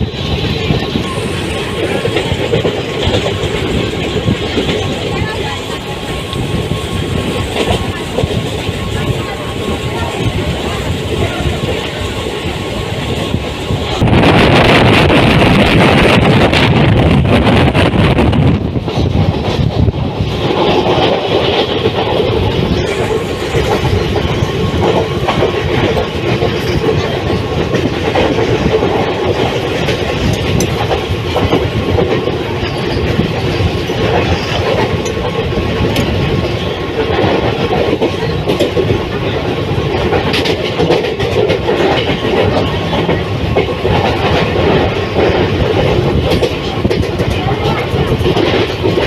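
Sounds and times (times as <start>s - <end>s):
train rumble: 0.0s - 49.0s
wheels clacking over rail joints: 0.0s - 49.0s.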